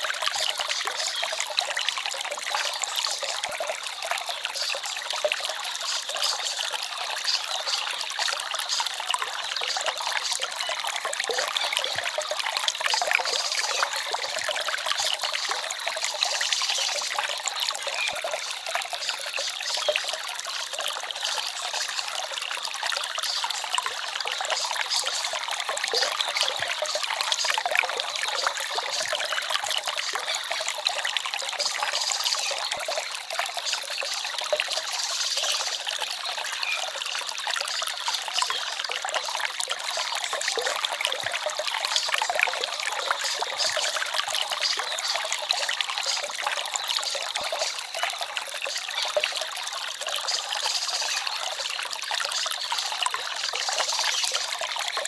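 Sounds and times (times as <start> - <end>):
forest stream babbling: 0.0 - 55.0.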